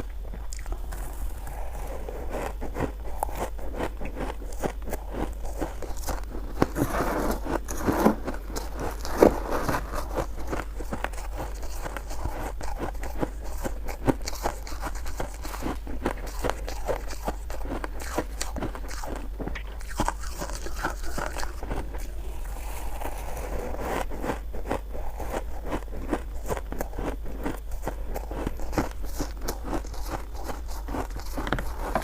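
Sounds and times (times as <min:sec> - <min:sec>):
crunching and chewing shaved ice: 0:00.0 - 0:32.0.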